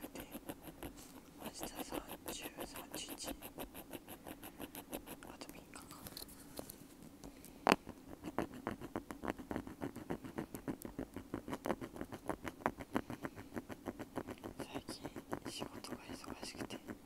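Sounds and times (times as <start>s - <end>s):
ear pick scratching earbud: 0.0s - 6.7s, 7.6s - 17.0s.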